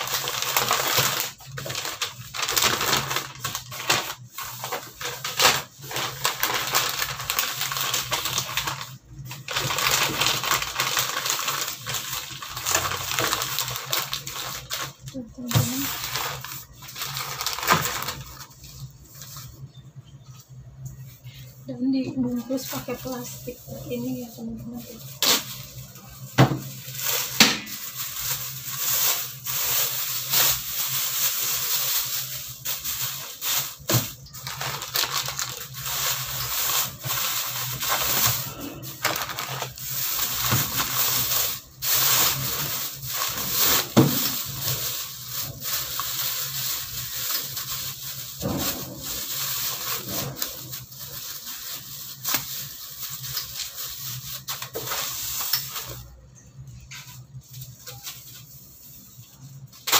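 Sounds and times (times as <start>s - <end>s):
plastic bag rustling and crinkling: 0.0s - 59.9s.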